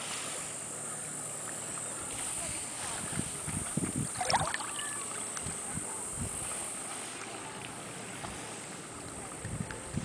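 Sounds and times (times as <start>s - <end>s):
calm seawater: 0.0s - 10.0s
wind: 0.0s - 10.0s.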